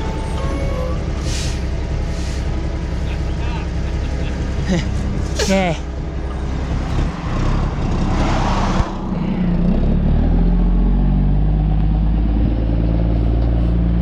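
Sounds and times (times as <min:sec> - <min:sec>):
diesel truck engine pulling away: 0:00.0 - 0:14.0.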